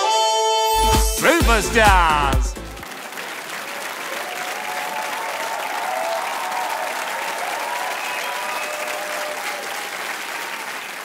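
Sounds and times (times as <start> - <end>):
audience applauding: 1.2 - 11.0
voices cheering: 1.2 - 11.0.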